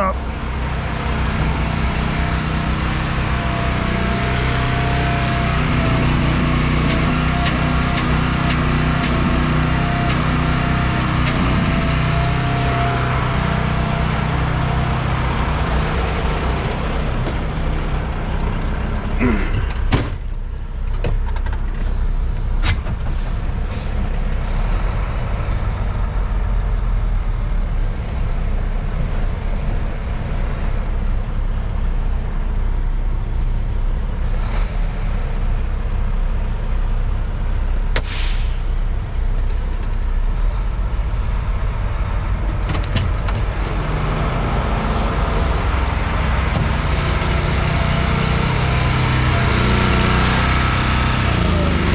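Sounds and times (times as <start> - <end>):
diesel truck engine rumbling: 0.0 - 51.9.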